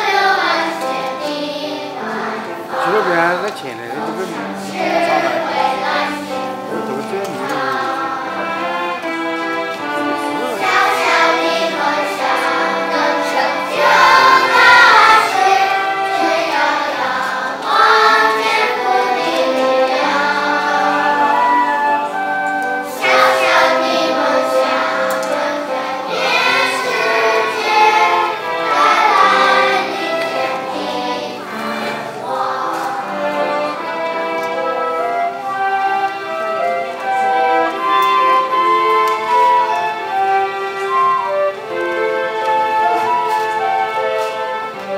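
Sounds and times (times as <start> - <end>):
children's choir singing: 0.0 - 44.9.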